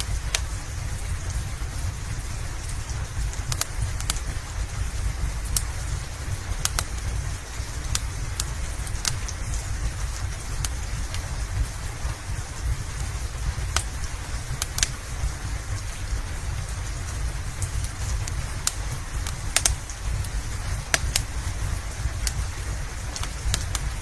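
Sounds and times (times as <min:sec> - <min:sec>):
steady rain: 0:00.0 - 0:24.0
wood fire crackling and popping: 0:00.0 - 0:24.0.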